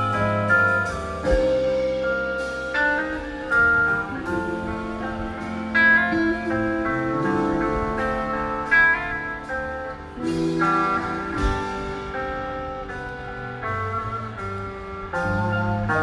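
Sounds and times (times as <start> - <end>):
drum and cymbal hits: 0.0 - 16.0
rock band playing: 0.0 - 16.0.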